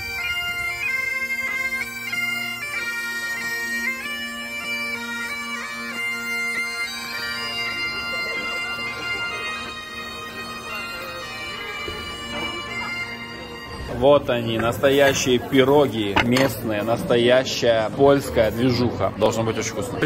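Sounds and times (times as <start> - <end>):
bagpipes playing a melody: 0.0 - 16.9.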